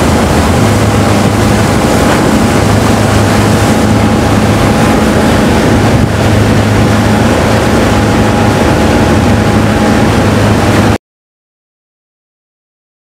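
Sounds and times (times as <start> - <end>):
churning boat wake: 0.0 - 11.0
motorboat engine running: 0.0 - 11.0.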